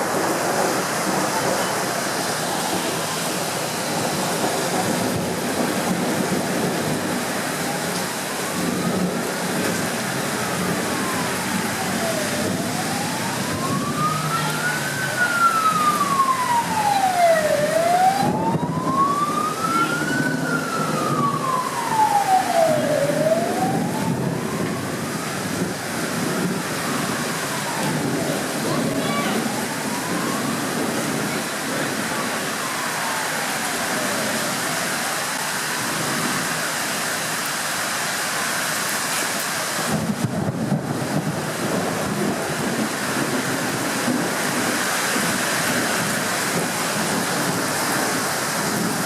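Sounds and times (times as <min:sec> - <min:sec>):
emergency vehicle siren wailing: 0:00.0 - 0:49.0.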